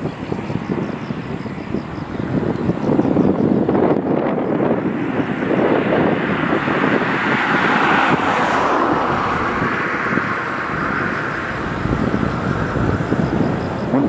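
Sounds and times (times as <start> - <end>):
vehicle running: 0.0 - 14.0.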